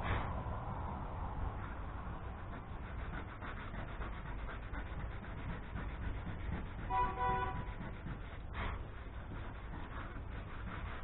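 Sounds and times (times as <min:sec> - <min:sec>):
sandpaper rubbing on fiberglass: 0:02.1 - 0:11.0.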